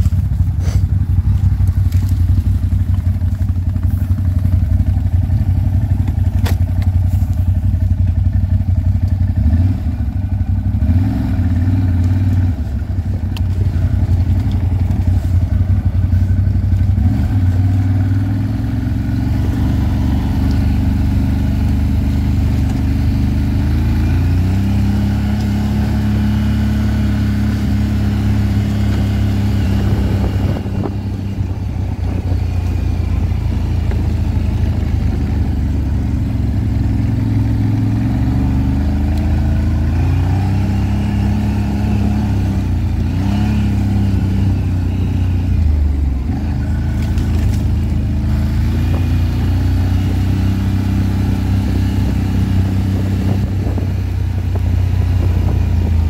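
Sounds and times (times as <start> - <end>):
atv engine running: 0.0 - 56.0
tyres on dirt track: 0.0 - 56.0.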